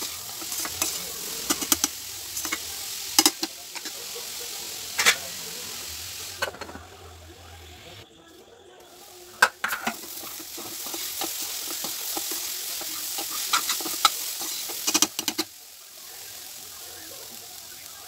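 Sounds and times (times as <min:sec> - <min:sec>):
cauliflower sizzling in a pan: 0:00.0 - 0:08.0, 0:08.9 - 0:18.0.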